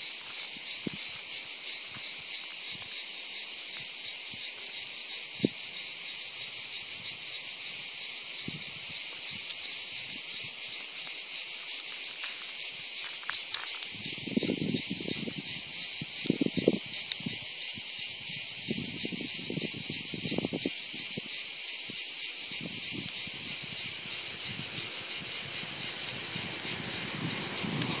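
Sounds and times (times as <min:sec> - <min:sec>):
cicadas droning: 0:00.0 - 0:28.0.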